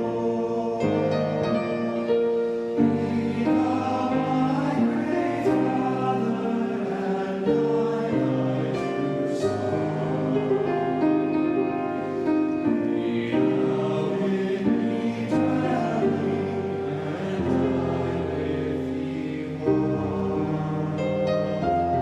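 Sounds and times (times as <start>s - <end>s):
youth choir singing a hymn: 0.0s - 22.0s.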